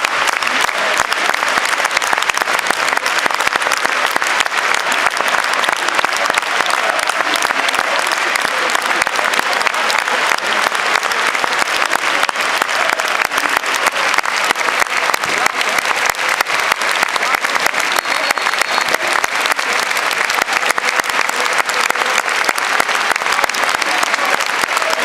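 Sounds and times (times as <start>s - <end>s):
stadium crowd clapping: 0.0s - 25.0s.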